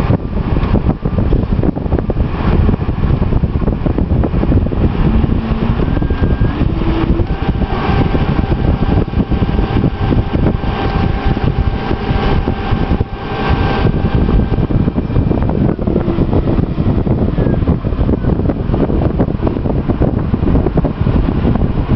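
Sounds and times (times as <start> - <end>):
motor rough rumble: 0.0 - 21.9
motor whine: 1.8 - 21.9.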